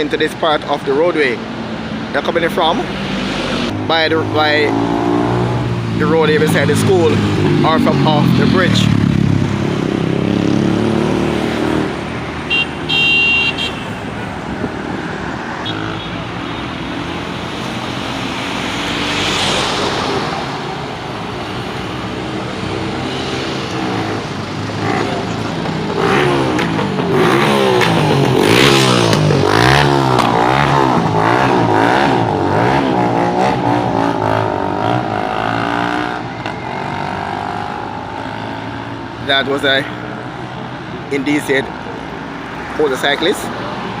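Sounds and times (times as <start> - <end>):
motor traffic passing: 0.0 - 44.0
motorcycle revving: 2.1 - 41.8.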